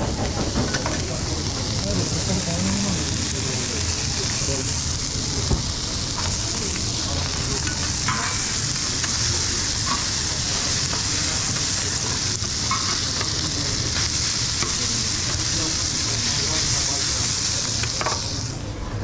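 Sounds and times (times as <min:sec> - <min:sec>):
food sizzling on a griddle: 0:00.0 - 0:18.7.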